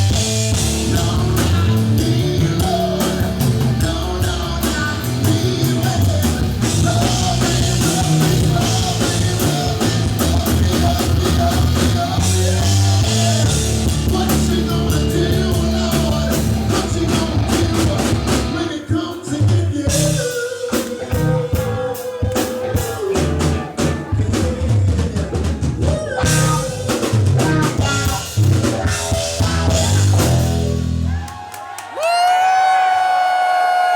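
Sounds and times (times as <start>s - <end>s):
live rock band playing: 0.0s - 31.3s.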